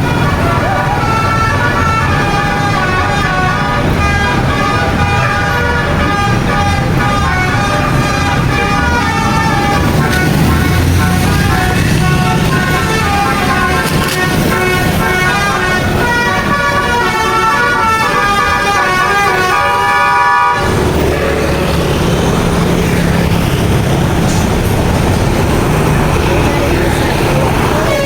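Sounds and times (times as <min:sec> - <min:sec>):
musical bus horn tune: 0:00.0 - 0:28.0.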